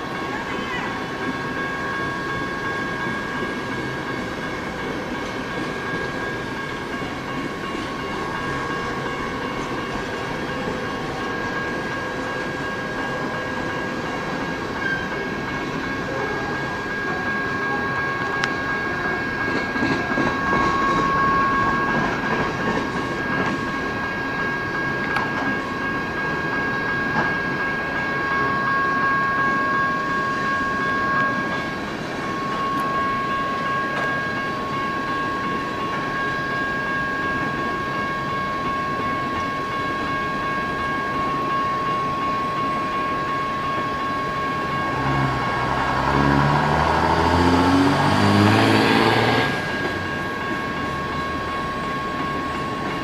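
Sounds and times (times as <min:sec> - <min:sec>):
steady high-pitched tones: 0:00.0 - 0:53.0
train wheels rumbling on rails: 0:00.0 - 0:53.0.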